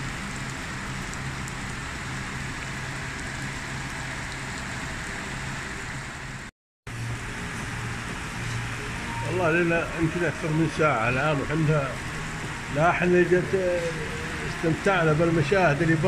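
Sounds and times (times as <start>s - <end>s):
heavy rain on lawn and puddle: 0.0s - 16.0s.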